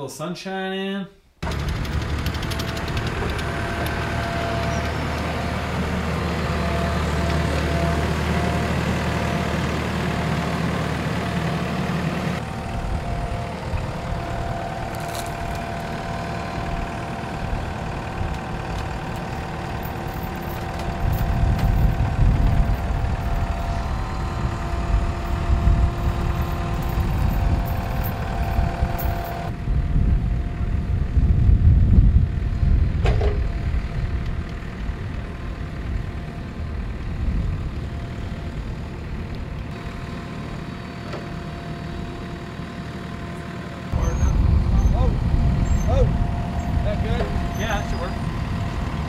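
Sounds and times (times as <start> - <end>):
diesel engine running: 1.4 - 49.0.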